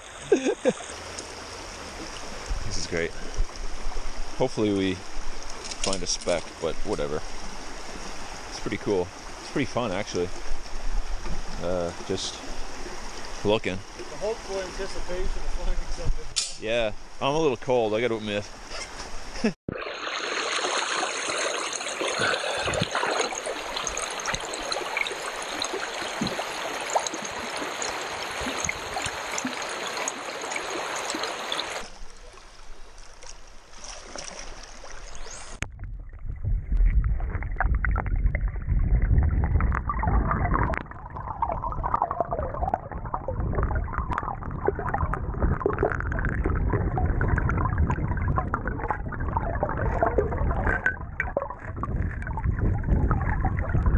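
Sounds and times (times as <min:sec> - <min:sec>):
muffled underwater stream: 0:00.0 - 0:16.4, 0:19.7 - 0:53.9
stream running over stones: 0:00.0 - 0:53.9.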